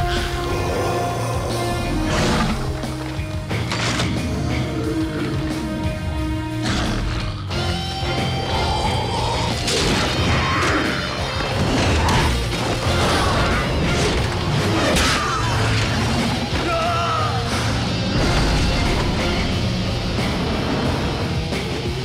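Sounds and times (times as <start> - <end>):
dramatic music: 0.0 - 22.0.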